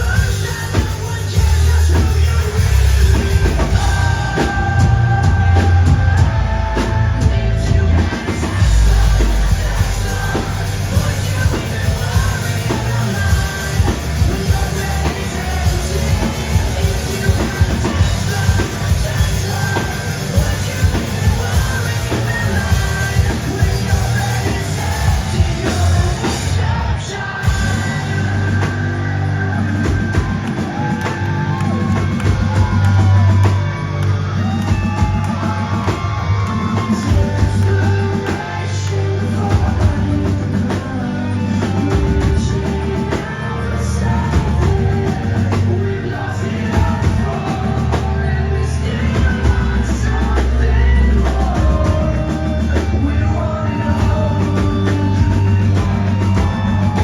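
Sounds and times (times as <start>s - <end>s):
drum kit: 0.0s - 57.0s
heavy bass: 0.0s - 57.0s
live rock band: 0.0s - 57.0s
person singing: 0.0s - 57.0s.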